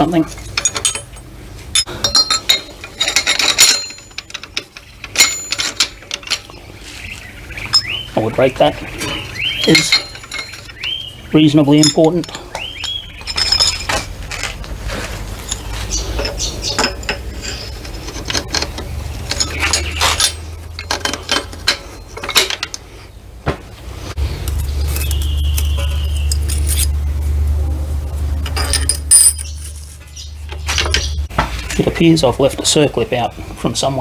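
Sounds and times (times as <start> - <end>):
steel gears clinking and scraping: 0.0 - 23.1, 24.0 - 27.4, 28.2 - 32.8
low steady rumble: 0.0 - 33.9.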